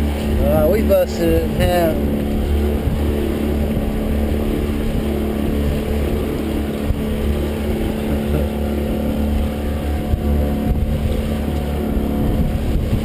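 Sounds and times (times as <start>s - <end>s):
boat motor running: 0.0s - 13.0s
rumble of wind and water: 0.0s - 13.0s.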